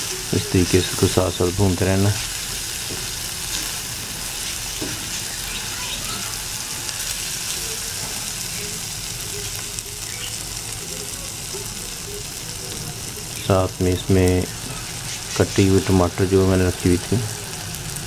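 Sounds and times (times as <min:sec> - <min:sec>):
meat sizzling on a griddle: 0:00.0 - 0:18.0
spatula turning meat: 0:00.0 - 0:18.0.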